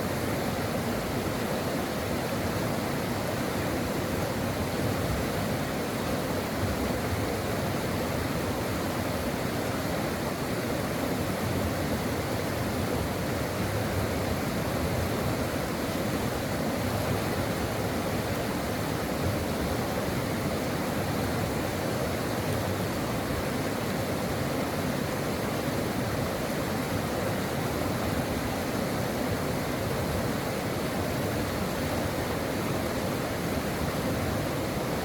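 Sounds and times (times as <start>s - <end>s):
stream water rushing over rocks: 0.0s - 35.0s.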